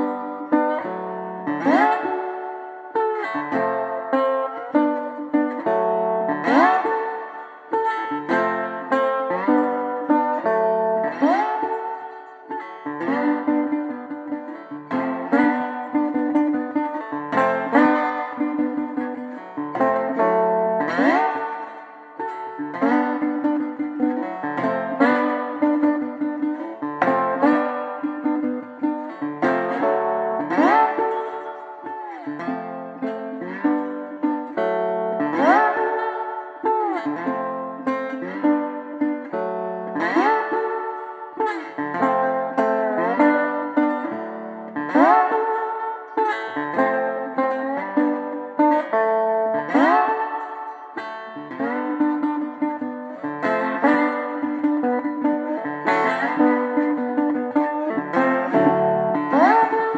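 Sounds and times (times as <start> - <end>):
sliding plucked guitar music: 0.0 - 59.9.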